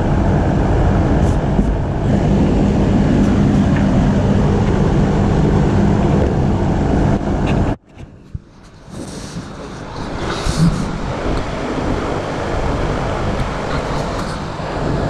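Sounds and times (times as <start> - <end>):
constant hum: 0.0 - 15.0
machinery rumbling: 0.0 - 15.0.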